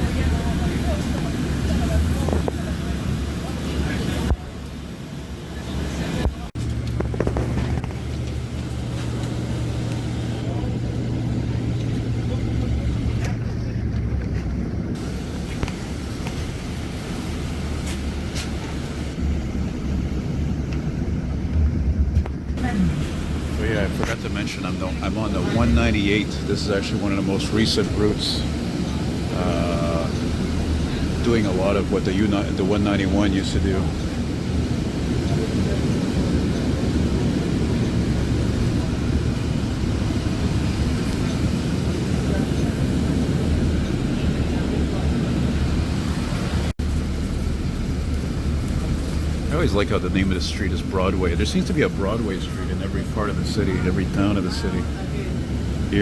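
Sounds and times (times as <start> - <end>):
bus low rumble: 0.0 - 56.0.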